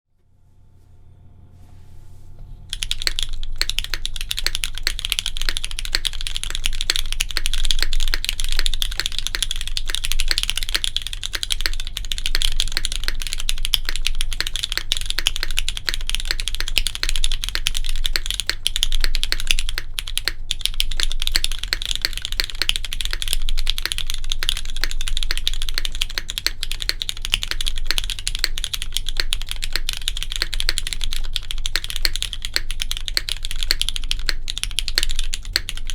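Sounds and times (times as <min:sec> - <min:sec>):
fast typing on mechanical keyboard: 0:02.7 - 0:35.9.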